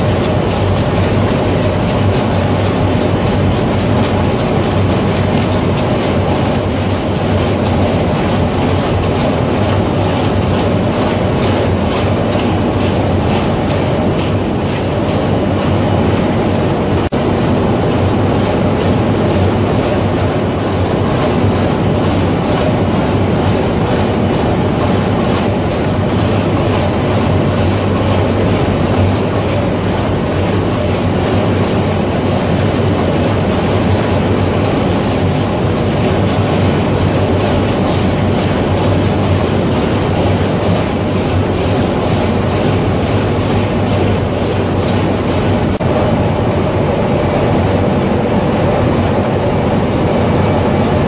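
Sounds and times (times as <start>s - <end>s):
ship diesel engine clatter: 0.0s - 51.0s.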